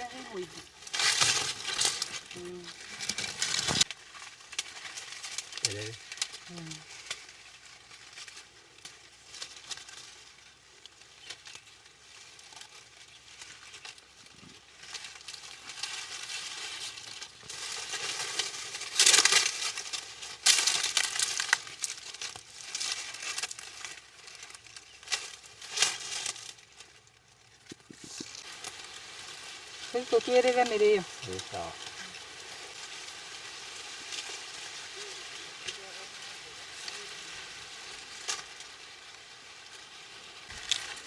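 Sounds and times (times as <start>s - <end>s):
leafy greens rustling and tearing: 0.0s - 41.0s.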